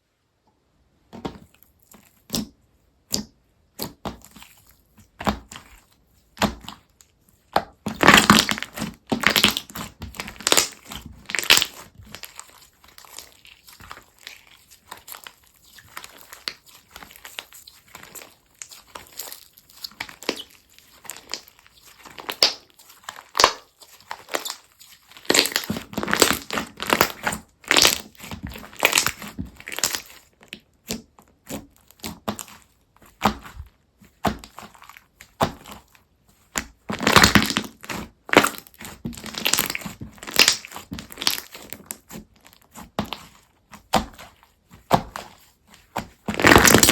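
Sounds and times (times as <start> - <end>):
slime squishing: 1.1 - 46.9
crunchy slime crackles and pops: 1.5 - 46.9.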